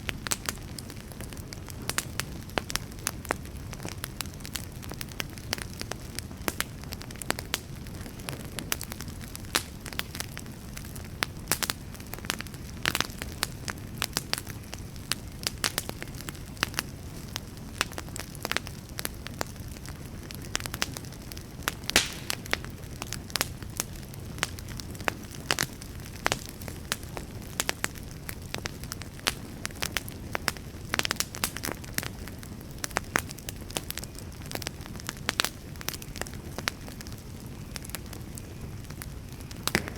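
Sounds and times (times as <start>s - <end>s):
rush of flames: 0.0s - 28.1s, 34.6s - 39.9s
logs crackling and popping: 0.0s - 39.9s.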